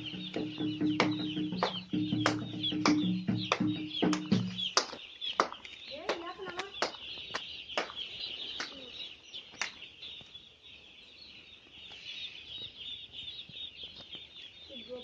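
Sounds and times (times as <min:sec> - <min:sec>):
flock of chicks peeping: 0:00.0 - 0:15.0.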